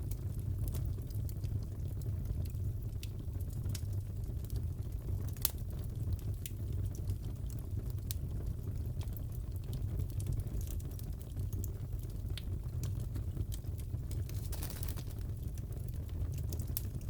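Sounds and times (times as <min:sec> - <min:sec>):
fire crackling: 0:00.0 - 0:17.0
fire popping and snapping: 0:00.0 - 0:17.0.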